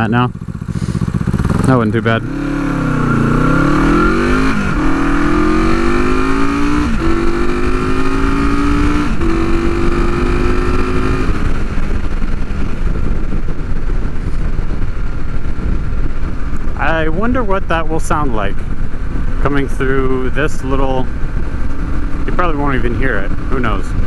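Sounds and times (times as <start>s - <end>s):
motorcycle accelerating through gears: 0.0s - 16.8s, 18.6s - 24.0s
wind rush: 0.5s - 24.0s.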